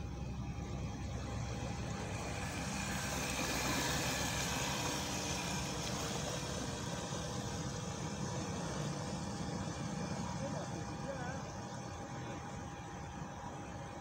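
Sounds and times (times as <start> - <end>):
electric outboard motor humming: 0.0 - 13.6
propeller churning water: 0.0 - 14.0.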